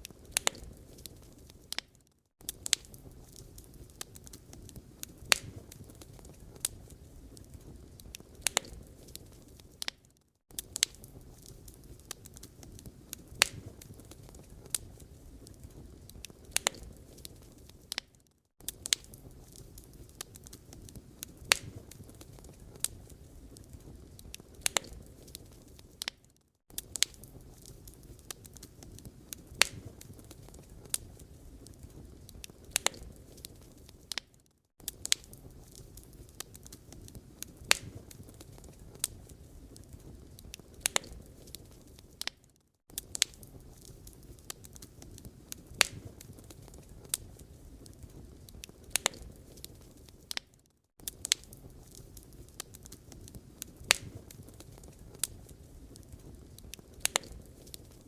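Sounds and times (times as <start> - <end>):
soft rustle of flames: 0.0 - 58.0
wood fire crackling: 0.0 - 58.0.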